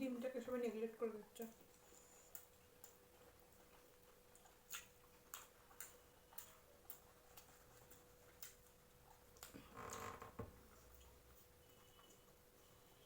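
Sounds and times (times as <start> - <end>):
faint steady hum: 0.0 - 13.0
chewing and lip smacking: 1.5 - 9.7, 10.7 - 13.0.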